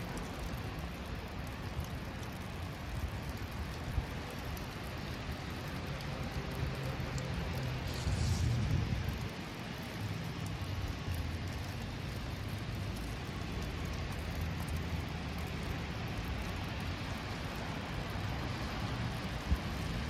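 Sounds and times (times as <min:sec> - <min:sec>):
city traffic hum: 0:00.0 - 0:20.0
even hiss of wet street: 0:00.0 - 0:20.0.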